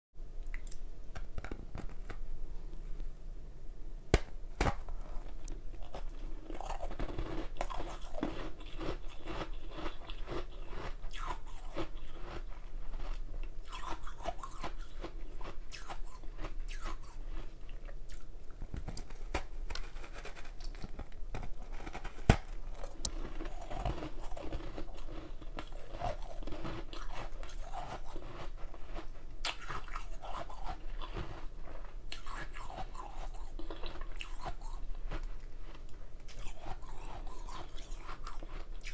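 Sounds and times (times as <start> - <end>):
person chewing hard ice: 5.4 - 18.3, 18.9 - 38.9.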